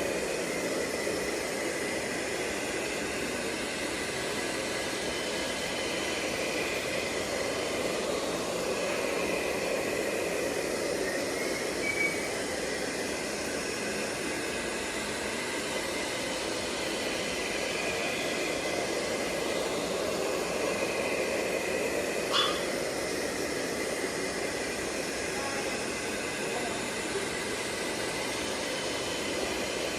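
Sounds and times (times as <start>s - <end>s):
robot vacuum running: 0.0s - 29.9s.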